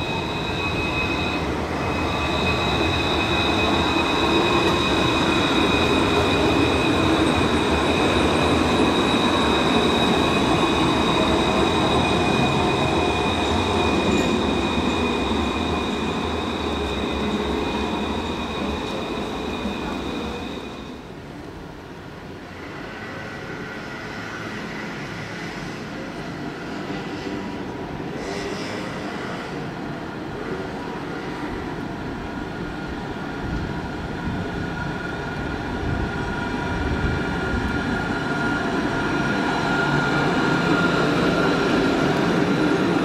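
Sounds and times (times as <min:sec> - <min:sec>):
tram electric drive whine: 0:00.0 - 0:43.0
tram wheels rumbling on rails: 0:00.0 - 0:43.0.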